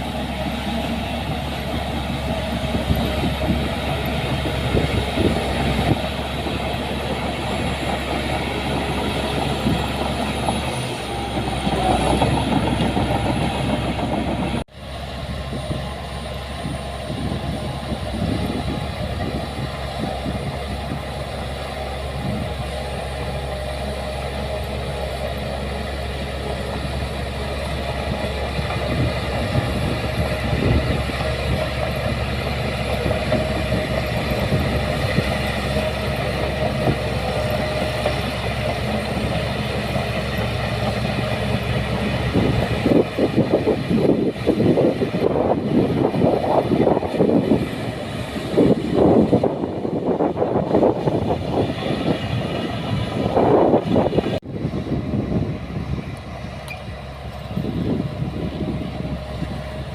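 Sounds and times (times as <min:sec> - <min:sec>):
heavy machinery diesel engine running: 0:00.0 - 0:59.9.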